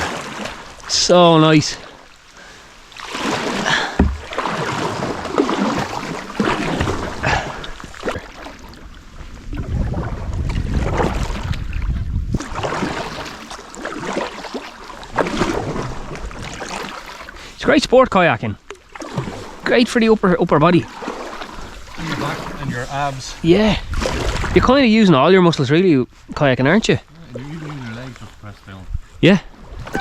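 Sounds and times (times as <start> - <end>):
kayak paddle splashing in water: 0.0 - 17.6, 18.6 - 24.8, 29.5 - 30.0.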